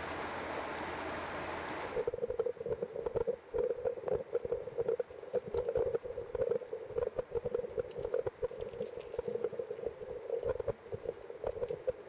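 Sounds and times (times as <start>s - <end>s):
stream water rushing underwater: 0.0s - 12.0s
irregular clicks and crackles: 2.0s - 12.0s.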